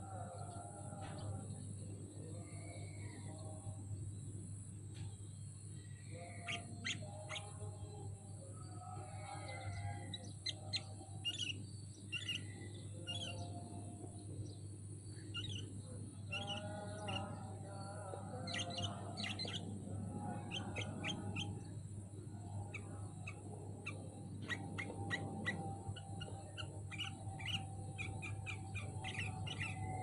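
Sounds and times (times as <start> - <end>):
birds chirping and warbling: 0.0 - 30.0
low hum: 0.0 - 30.0.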